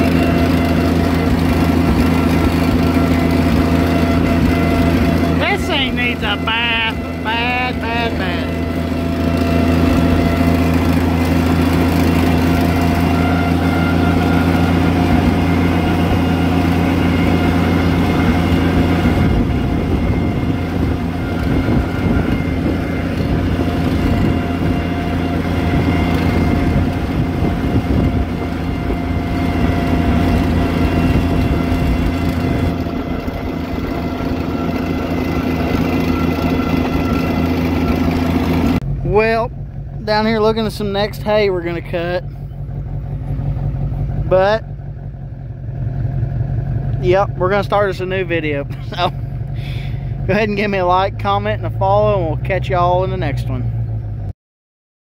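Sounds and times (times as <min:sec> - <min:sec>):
tractor engine running: 0:00.0 - 0:54.3.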